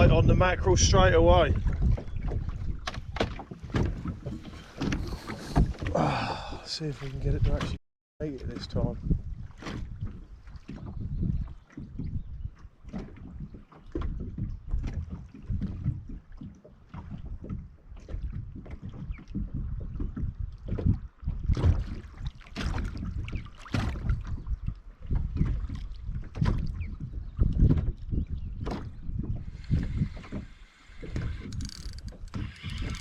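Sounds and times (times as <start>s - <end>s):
water slapping against boat hull: 0.0s - 7.8s, 8.4s - 33.0s
wind buffeting microphone: 0.0s - 33.0s.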